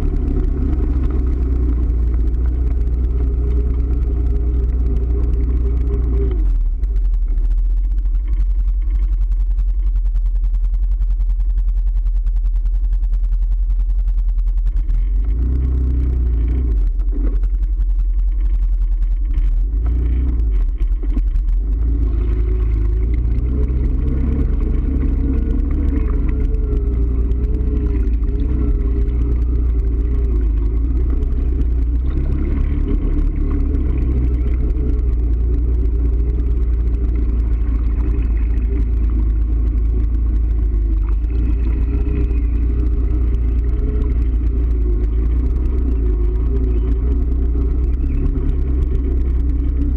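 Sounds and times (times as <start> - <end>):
vehicle engine rumbling: 0.0 - 49.9.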